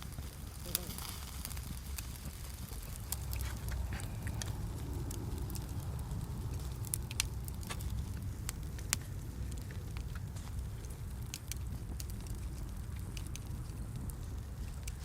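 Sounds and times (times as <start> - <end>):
fire crackling: 0.0 - 15.0
low rumble: 0.0 - 15.0.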